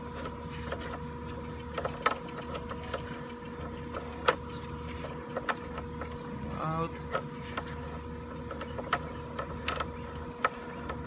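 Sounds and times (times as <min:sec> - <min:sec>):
electronic hum and whine: 0:00.0 - 0:11.0.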